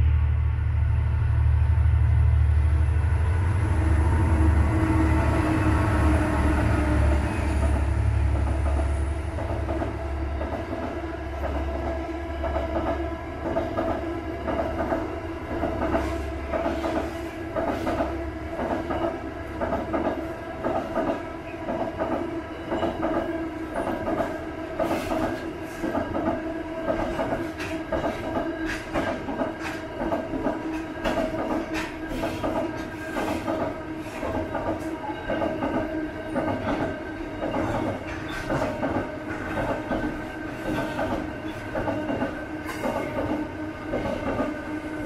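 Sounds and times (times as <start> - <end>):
diesel locomotive engine rumble: 0.0 - 45.0
train wagons rumbling over bridge: 0.0 - 45.0.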